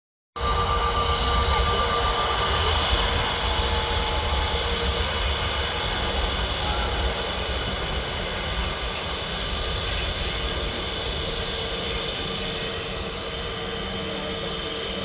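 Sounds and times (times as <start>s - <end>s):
jet engines whining at taxi power: 0.4s - 15.0s.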